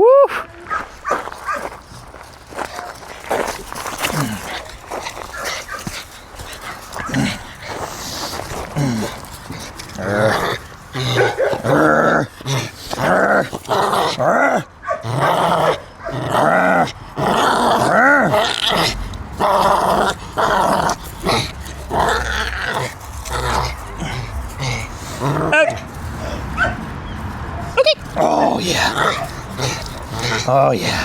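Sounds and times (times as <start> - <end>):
small dog growling: 3.3 - 26.8, 27.7 - 31.0.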